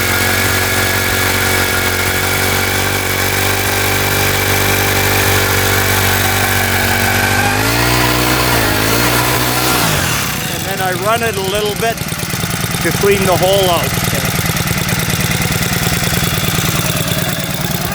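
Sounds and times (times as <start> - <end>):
ice auger engine running: 0.0 - 17.9.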